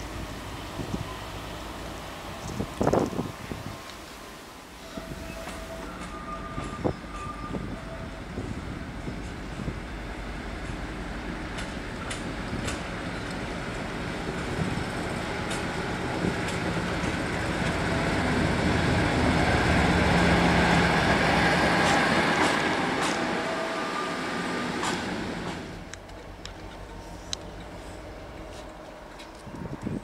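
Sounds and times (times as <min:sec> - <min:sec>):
diesel locomotive passing: 0:00.0 - 0:30.0.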